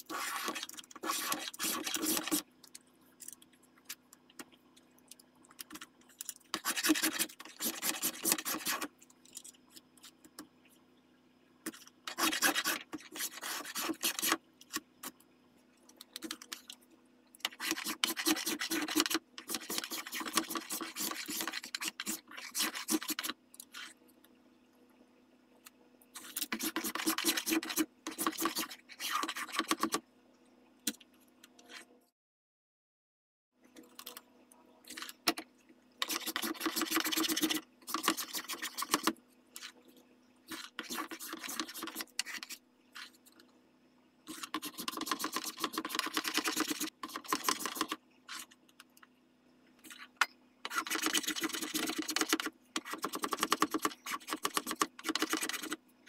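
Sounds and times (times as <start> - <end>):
faint steady hum: 0.0 - 32.1, 33.6 - 56.0.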